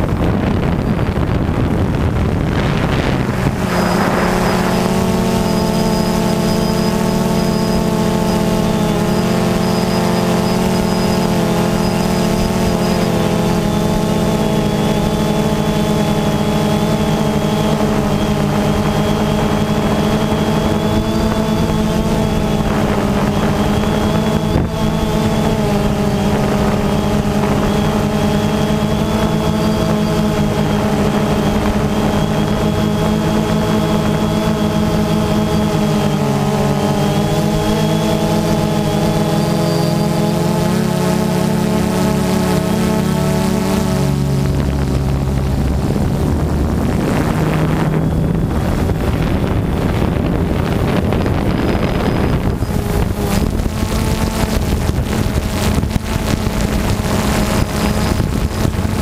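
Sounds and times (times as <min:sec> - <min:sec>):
quadcopter propellers buzzing: 0:00.0 - 0:59.0
wind rush: 0:00.0 - 0:59.0.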